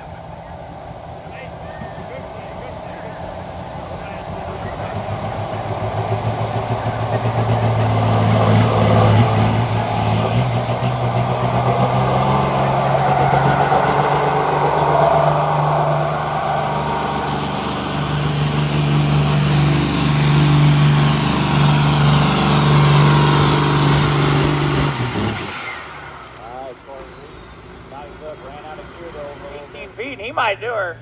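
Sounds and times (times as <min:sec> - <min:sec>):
vehicle engine running hard: 0:00.0 - 0:30.6.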